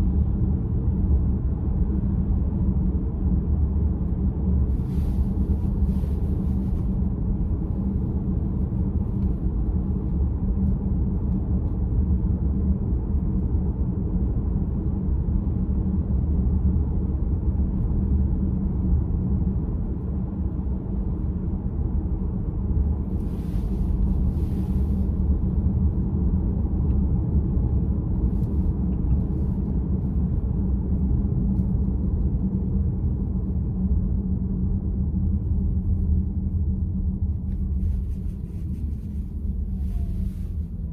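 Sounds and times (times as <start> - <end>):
road and tyre rumble in car: 0.0 - 40.9.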